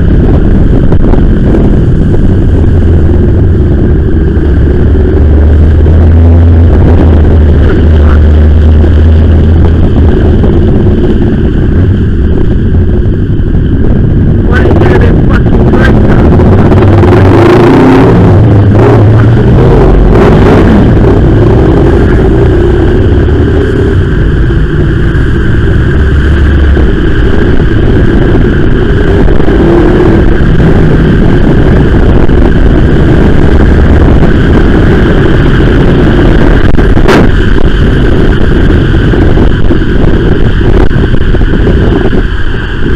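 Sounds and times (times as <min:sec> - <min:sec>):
low wind rumble: 0:00.0 - 0:42.9
motorcycle engine running: 0:00.0 - 0:42.9
traffic noise: 0:00.0 - 0:42.9.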